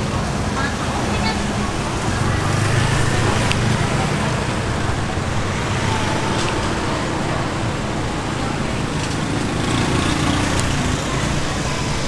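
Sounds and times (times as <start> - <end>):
motorbike engines passing: 0.0 - 12.0
street traffic hum: 0.0 - 12.0.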